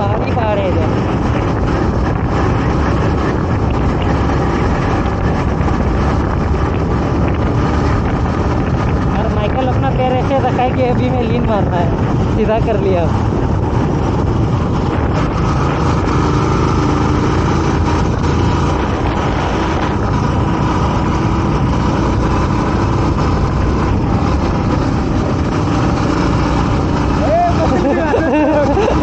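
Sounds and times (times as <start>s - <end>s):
motorcycle engine cruising: 0.0s - 29.0s
wind and road noise: 0.0s - 29.0s.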